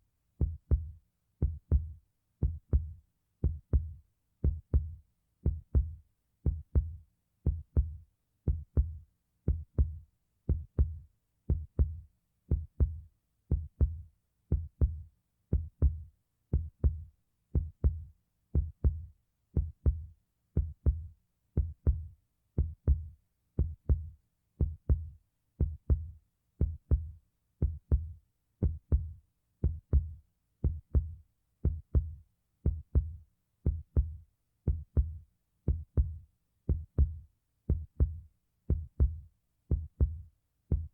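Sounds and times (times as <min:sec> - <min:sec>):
heartbeat thumps: 0:00.4 - 0:15.0, 0:15.6 - 0:40.9.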